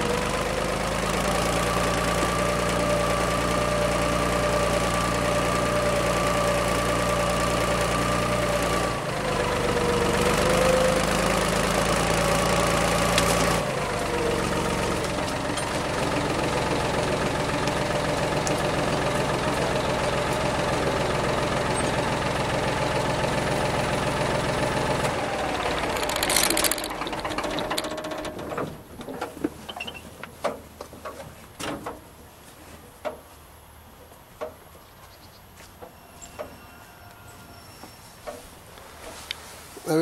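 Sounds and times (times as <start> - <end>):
tractor engine running: 0.0 - 34.7.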